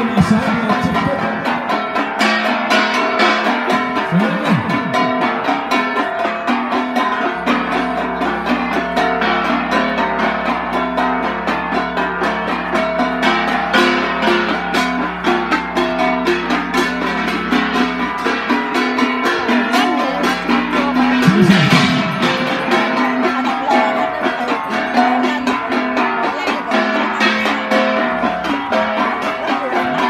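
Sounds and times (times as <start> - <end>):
hand-held gongs struck rhythmically: 0.0 - 30.0.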